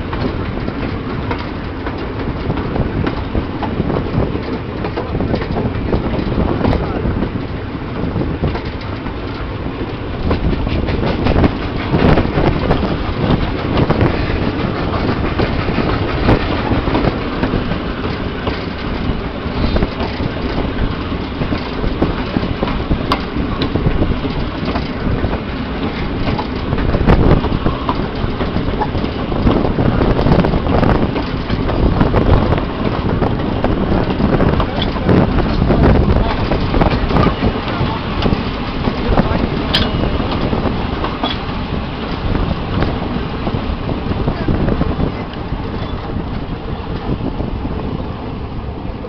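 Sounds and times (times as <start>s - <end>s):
train wheels rumbling on rail: 0.0s - 49.0s
wagons clicking and rattling: 0.0s - 49.0s.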